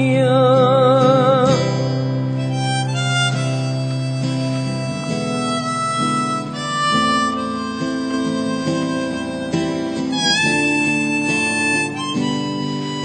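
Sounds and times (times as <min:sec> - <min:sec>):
guitar backing: 0:00.0 - 0:13.0
harmonica long held notes: 0:01.1 - 0:13.0.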